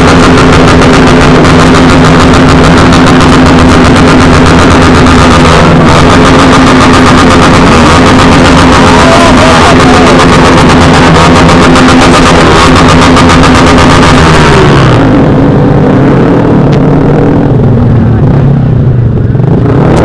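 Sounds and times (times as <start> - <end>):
motorcycles revving loudly: 0.0 - 20.0.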